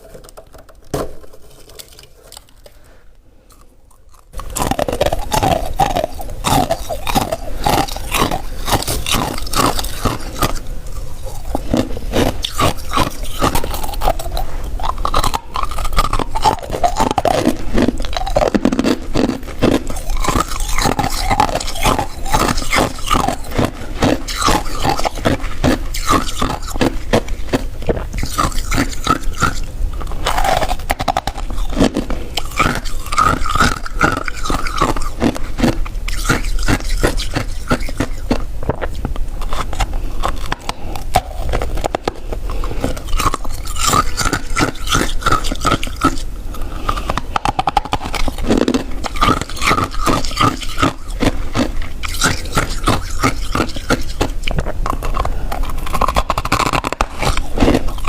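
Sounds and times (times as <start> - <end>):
ice crunching being chewed: 1.4 - 58.0.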